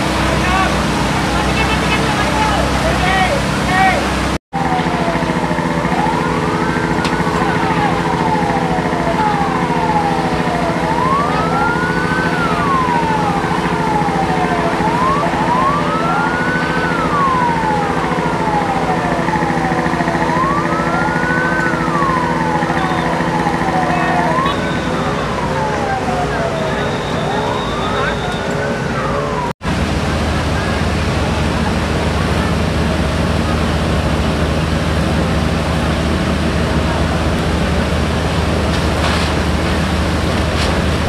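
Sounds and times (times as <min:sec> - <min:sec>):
fire truck sirens wailing: 0:00.0 - 0:41.0.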